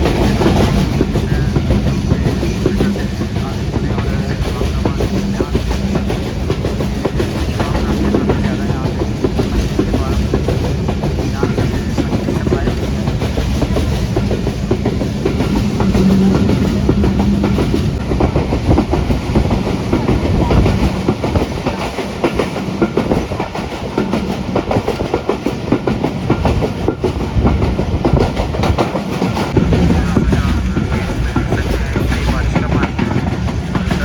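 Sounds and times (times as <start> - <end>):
train rumble: 0.0 - 34.0
train wheels clacking over rail joints: 0.0 - 34.0.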